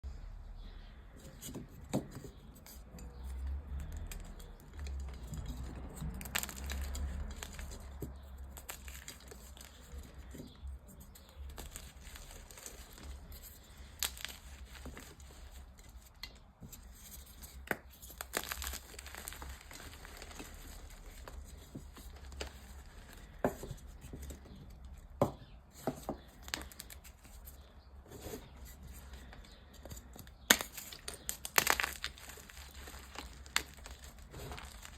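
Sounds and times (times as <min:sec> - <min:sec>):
chalk crushed by hand: 0:01.4 - 0:24.6, 0:25.2 - 0:34.9.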